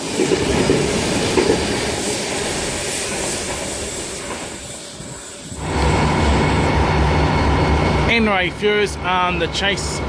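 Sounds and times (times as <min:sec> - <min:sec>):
electric train rumbling past: 0:00.0 - 0:10.0.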